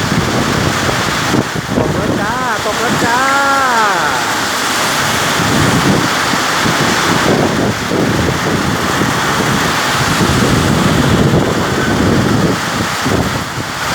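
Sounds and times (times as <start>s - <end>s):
wind buffeting microphone: 0.0s - 3.0s, 4.4s - 13.9s
heavy rain pouring: 0.0s - 13.9s.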